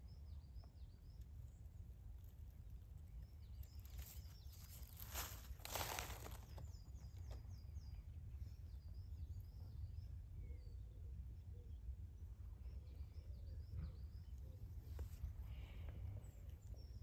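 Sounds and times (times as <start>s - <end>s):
low steady rumble: 0.0s - 17.0s
small birds chirping: 0.0s - 17.0s.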